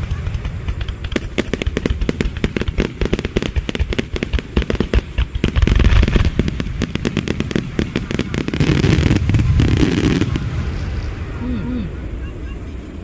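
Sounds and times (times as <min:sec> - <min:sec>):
fireworks popping and crackling: 0:00.0 - 0:11.1
deep fireworks booms: 0:00.0 - 0:12.2.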